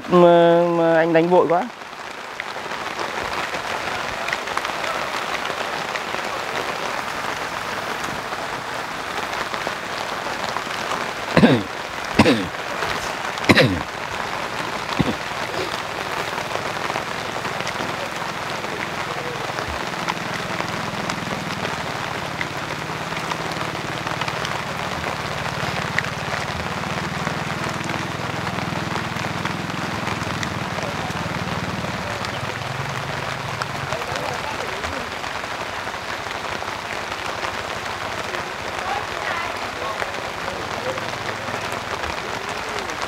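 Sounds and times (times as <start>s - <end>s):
steady rain hissing: 0.0s - 43.0s.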